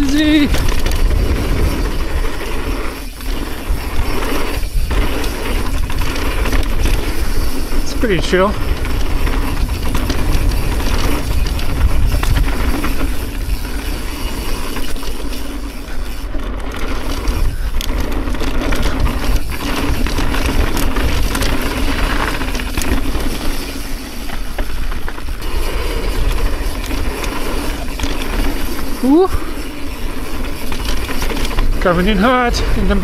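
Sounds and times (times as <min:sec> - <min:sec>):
bike rattling knocks: 0:00.0 - 0:33.0
bike tyre noise: 0:00.0 - 0:33.0
wind rush on microphone: 0:00.0 - 0:33.0.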